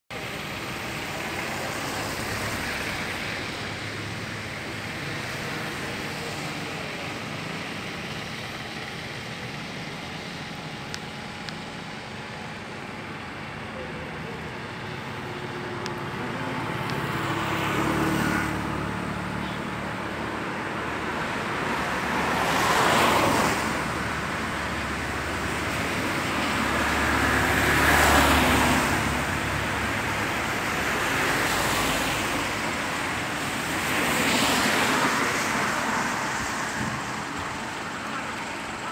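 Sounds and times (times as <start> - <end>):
road vehicles passing: 0.1 - 38.9.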